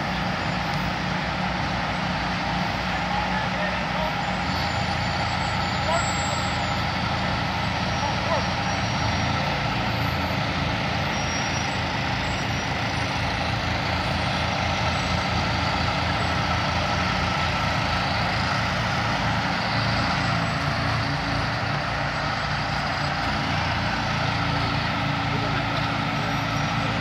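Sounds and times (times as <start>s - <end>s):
diesel truck engines under load: 0.0s - 27.0s.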